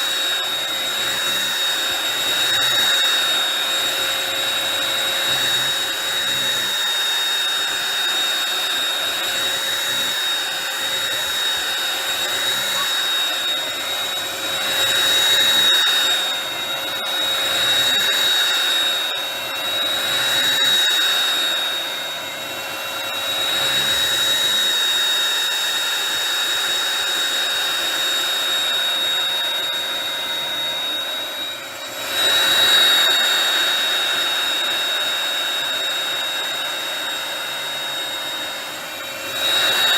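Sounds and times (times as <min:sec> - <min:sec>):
hand vacuum motor whining: 0:00.0 - 0:39.9.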